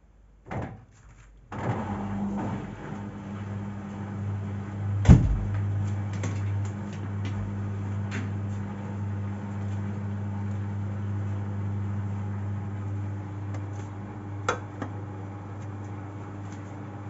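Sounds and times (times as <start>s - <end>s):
washing machine running: 1.5s - 17.0s.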